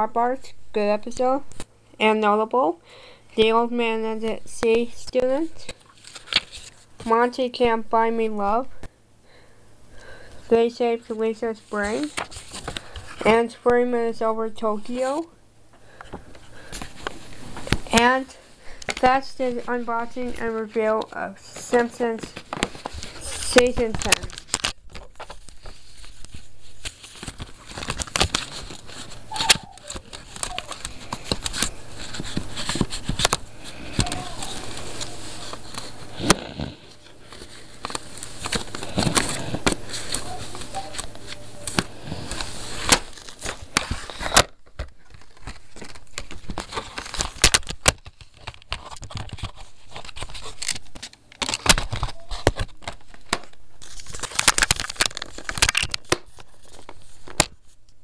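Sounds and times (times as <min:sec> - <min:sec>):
paper and fabric rustling: 0:03.4 - 0:08.6, 0:10.5 - 0:15.3, 0:16.2 - 0:57.9.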